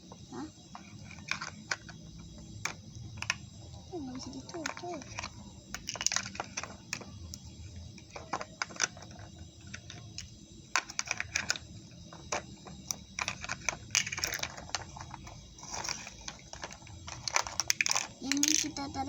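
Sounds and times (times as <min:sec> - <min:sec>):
plastic toy pieces clicking: 0:00.7 - 0:02.0, 0:02.6 - 0:03.4, 0:04.1 - 0:19.0.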